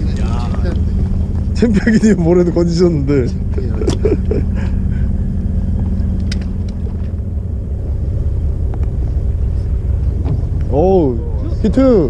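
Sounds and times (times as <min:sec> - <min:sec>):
boat engine idling: 0:00.0 - 0:12.0
steady hum: 0:00.0 - 0:12.0.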